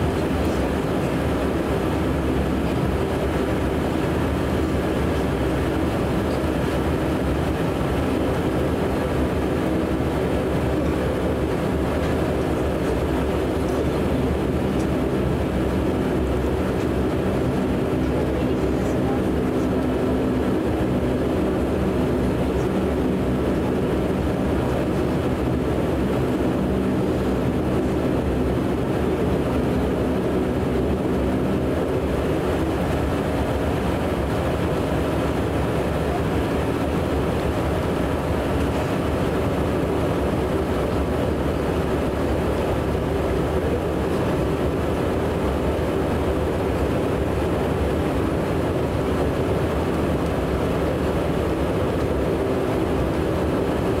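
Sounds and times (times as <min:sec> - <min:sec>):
turboprop engines droning: 0:00.0 - 0:54.0.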